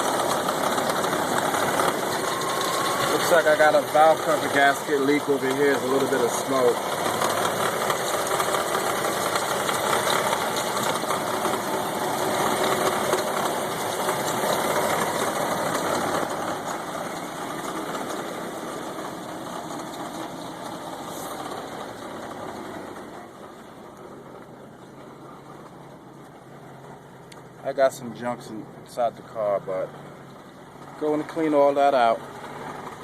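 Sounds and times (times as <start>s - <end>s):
car engine idling roughly: 0.0s - 33.0s.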